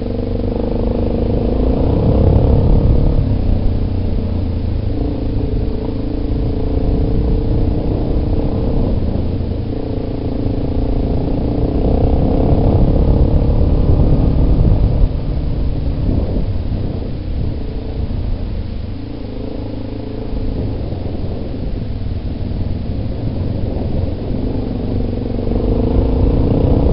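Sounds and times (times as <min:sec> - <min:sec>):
atv engine revving: 0:00.0 - 0:26.9
low rumble of riding: 0:00.0 - 0:26.9.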